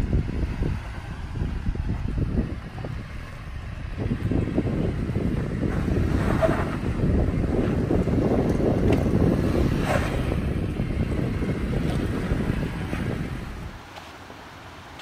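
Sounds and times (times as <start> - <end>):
wind buffeting microphone: 0.0 - 14.0
car engine straining: 0.0 - 15.0.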